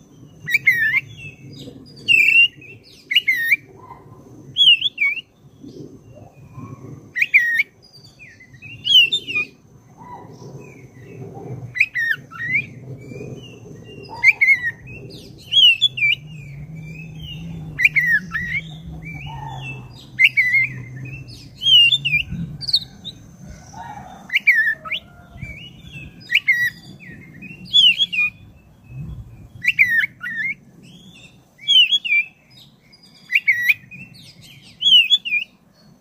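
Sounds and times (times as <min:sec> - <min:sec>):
magpie-robin singing: 0:00.3 - 0:03.6, 0:04.6 - 0:05.3, 0:07.2 - 0:35.6.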